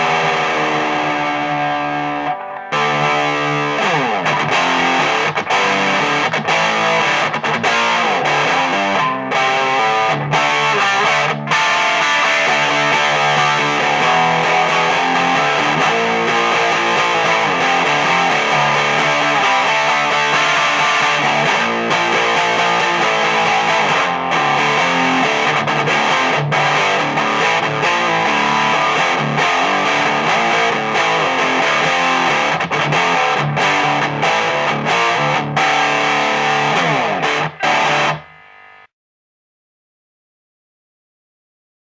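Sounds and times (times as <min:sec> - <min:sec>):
distorted electric guitar riffs: 0:00.0 - 0:38.9.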